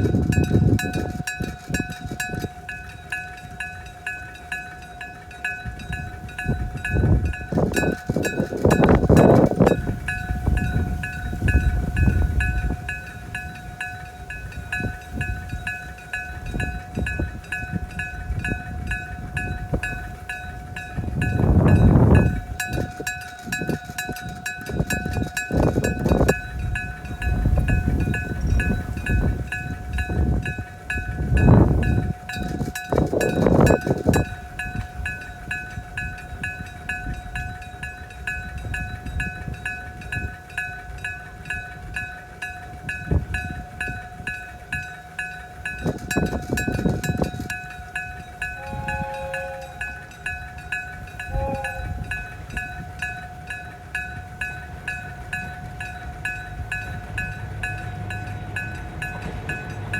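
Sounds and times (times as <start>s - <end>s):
level crossing gong bell: 0.2s - 59.9s.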